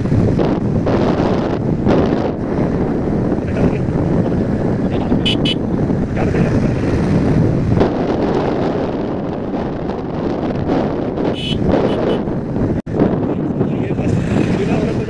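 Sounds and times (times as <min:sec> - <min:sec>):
motorcycle engine and road rumble: 0:00.0 - 0:15.0
wind on microphone: 0:00.0 - 0:15.0.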